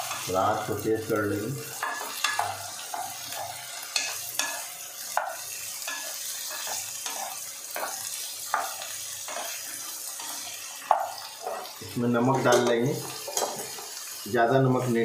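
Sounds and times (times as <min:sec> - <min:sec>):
vegetables sizzling in pan: 0:00.0 - 0:15.0.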